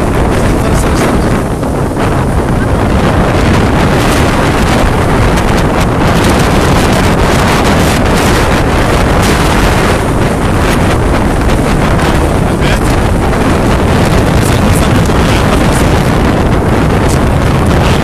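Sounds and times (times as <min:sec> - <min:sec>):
rough sea surf: 0:00.0 - 0:18.0
wind buffeting microphone: 0:00.0 - 0:18.0.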